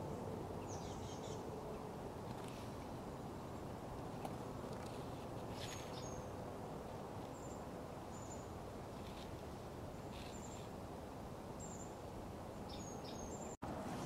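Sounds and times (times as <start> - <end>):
low outdoor background noise: 0.0 - 14.0.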